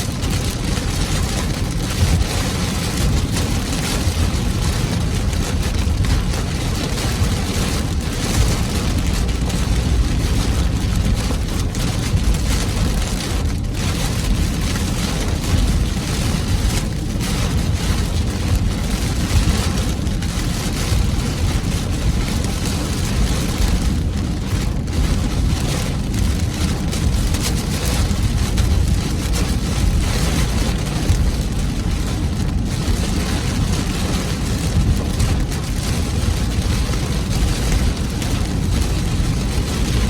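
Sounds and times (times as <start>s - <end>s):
car driving on wet road: 0.0s - 40.0s
heavy rain drumming on car: 0.0s - 40.0s.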